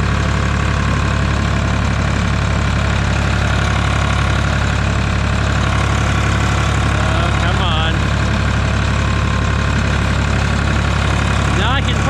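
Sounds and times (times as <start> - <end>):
tractor engine running under load: 0.0 - 12.0.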